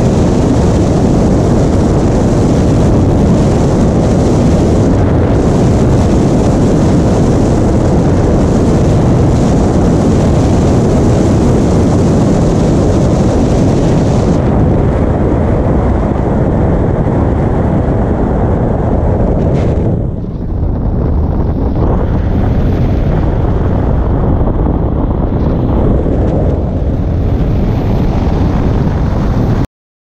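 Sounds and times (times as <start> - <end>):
truck rumbling at speed: 0.0 - 29.7
wind rushing over microphone: 0.0 - 29.7.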